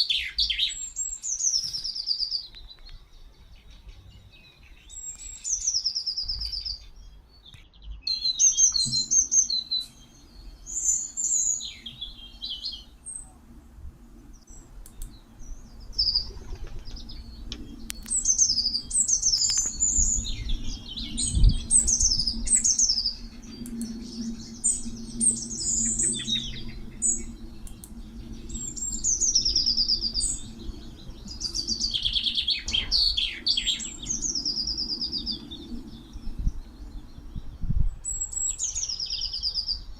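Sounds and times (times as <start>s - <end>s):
garden birds chirping: 0.0s - 39.9s.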